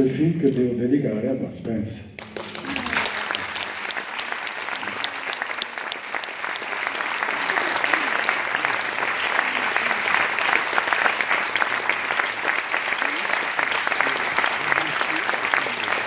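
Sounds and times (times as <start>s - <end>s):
audience applauding: 2.2s - 16.0s.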